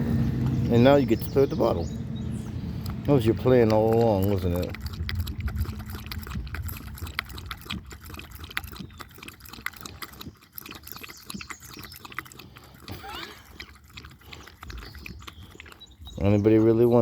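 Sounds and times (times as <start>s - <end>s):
dog lapping water: 0.0s - 17.0s.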